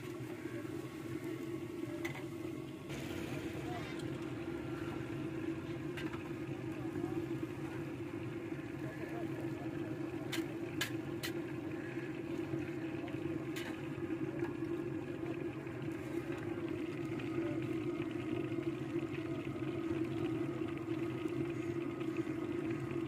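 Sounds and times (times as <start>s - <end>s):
frying oil crackle: 0.0s - 23.0s
low mechanical hum: 0.0s - 23.0s.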